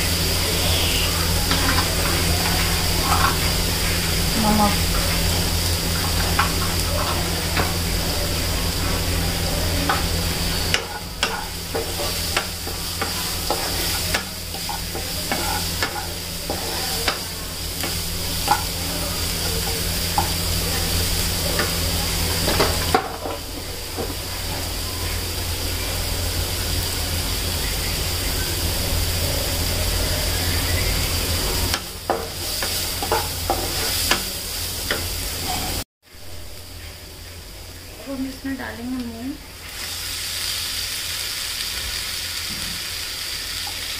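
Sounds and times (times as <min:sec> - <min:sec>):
onions sizzling in hot oil: 0:00.0 - 0:43.9.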